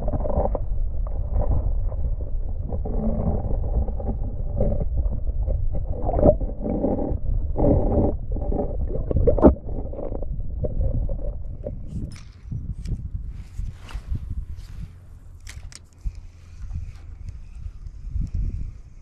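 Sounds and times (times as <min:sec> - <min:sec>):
muffled underwater water sloshing: 0:00.0 - 0:19.0.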